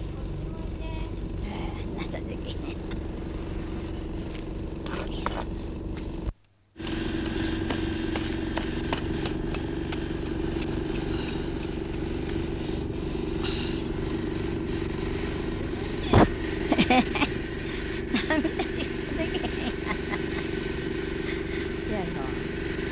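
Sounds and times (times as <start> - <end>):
steady mechanical hum: 0.0 - 22.9.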